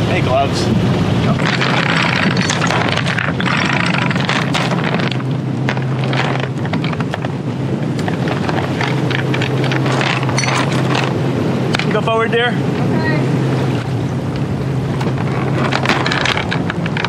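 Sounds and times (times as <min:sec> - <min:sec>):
diesel engine droning: 0:00.0 - 0:17.0
wind buffeting microphone: 0:00.0 - 0:17.0.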